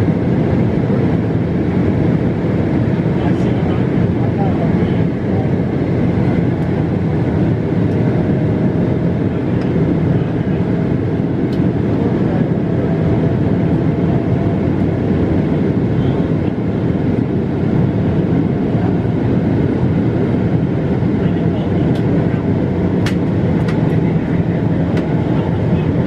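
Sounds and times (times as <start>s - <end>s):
jet airliner cabin rumble: 0.0s - 26.0s.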